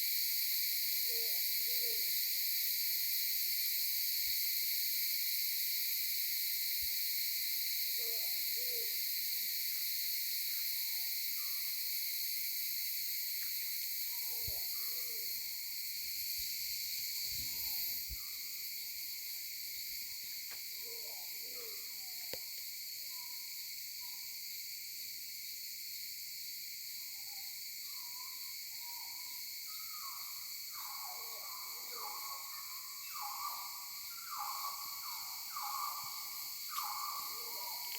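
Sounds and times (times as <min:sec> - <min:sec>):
insects droning: 0:00.0 - 0:37.9.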